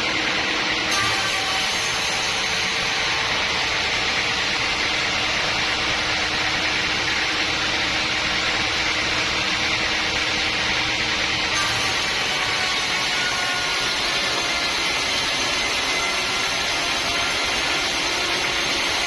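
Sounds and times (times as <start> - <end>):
sawmill machinery hiss: 0.0 - 8.2, 11.6 - 19.0.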